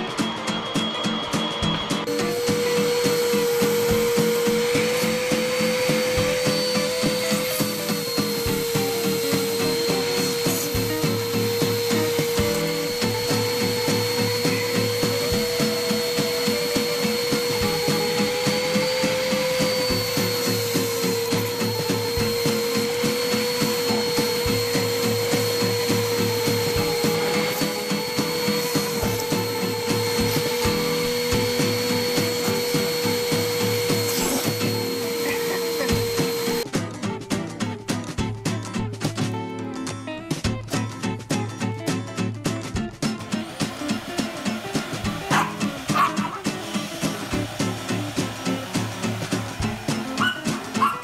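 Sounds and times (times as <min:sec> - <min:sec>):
vacuum cleaner whining: 0:00.0 - 0:36.8, 0:43.1 - 0:51.0.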